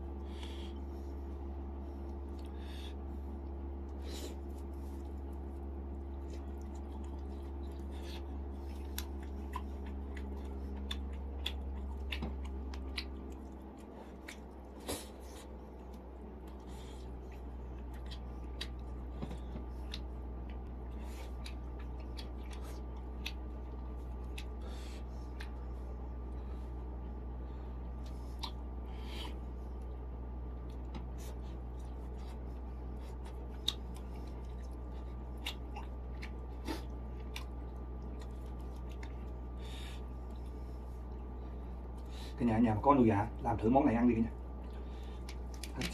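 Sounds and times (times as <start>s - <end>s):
person chewing food: 0.0s - 42.4s, 44.4s - 45.9s
low steady hum: 0.0s - 45.9s.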